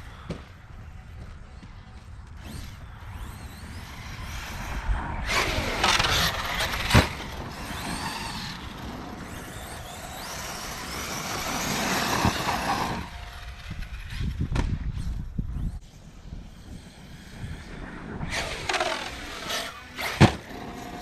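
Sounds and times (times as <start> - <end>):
electric motor whining: 2.3 - 21.0.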